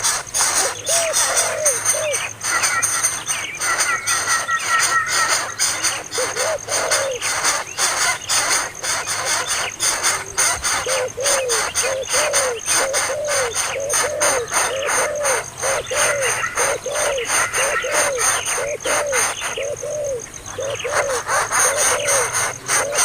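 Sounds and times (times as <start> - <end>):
bird calls: 0.0 - 23.0.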